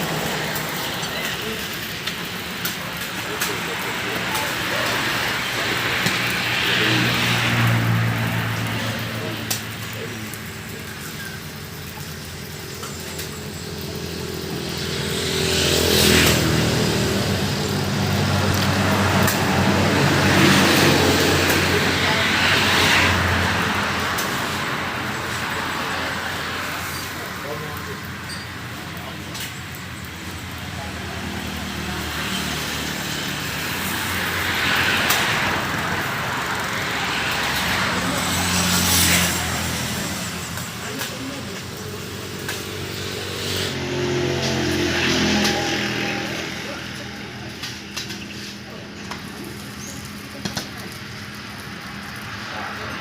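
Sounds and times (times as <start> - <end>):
vehicle passing: 0.0 - 53.0.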